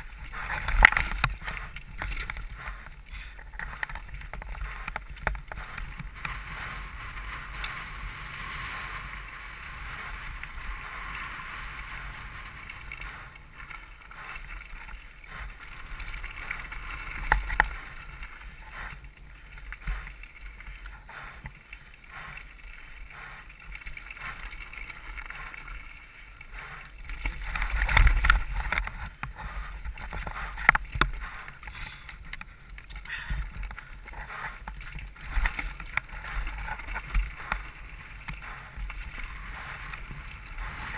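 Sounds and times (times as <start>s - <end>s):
bike chain and frame rattling: 0.0s - 40.9s
bike tyres on dirt: 0.0s - 40.9s
wind rushing over camera: 0.0s - 40.9s.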